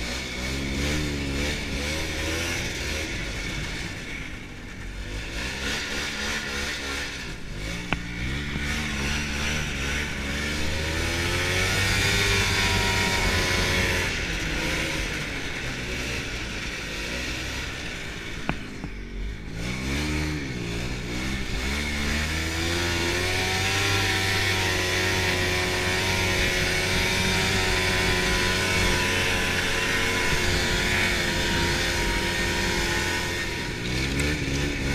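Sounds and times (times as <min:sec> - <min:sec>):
snowmobile engine accelerating: 0:00.0 - 0:34.9.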